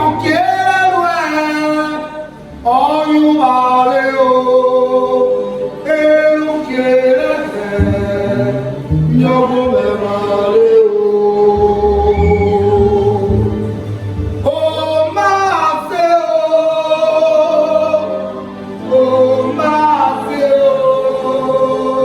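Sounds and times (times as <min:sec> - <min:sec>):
voices singing church song: 0:00.0 - 0:22.0.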